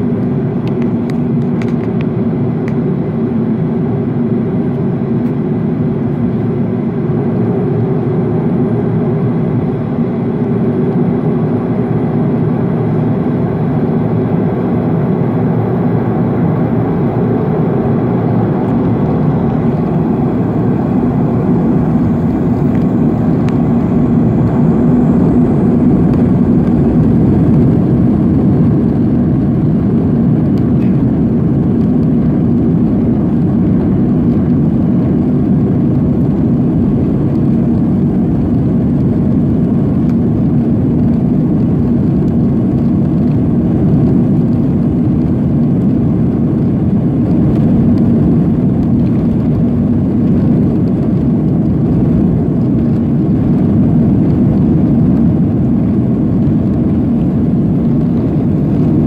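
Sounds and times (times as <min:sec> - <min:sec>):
high engine whine: 0:00.0 - 0:59.0
jet engine rumble in cabin: 0:00.0 - 0:59.0.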